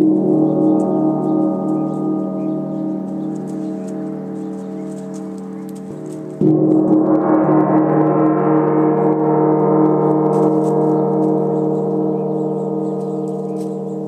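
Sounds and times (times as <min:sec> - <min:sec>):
gong struck with mallet: 0:00.0 - 0:14.0.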